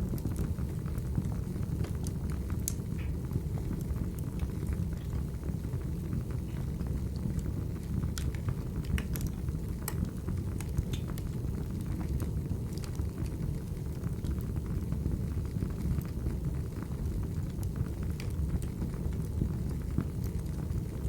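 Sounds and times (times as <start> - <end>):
burning logs crackling and popping: 0.0 - 21.0
wood fire rumbling: 0.0 - 21.0.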